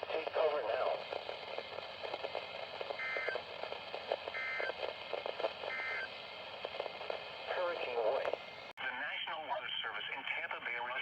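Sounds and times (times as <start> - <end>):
radio static with crackles: 0.0 - 11.0.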